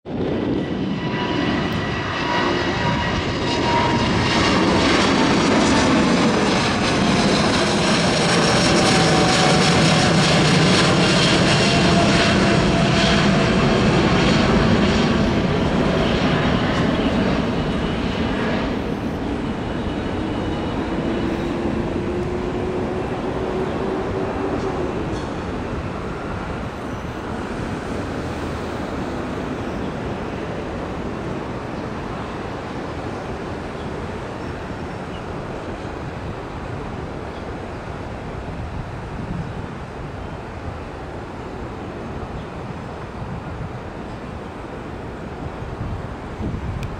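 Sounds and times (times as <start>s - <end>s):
jet airliner roar overhead: 0.1s - 46.9s.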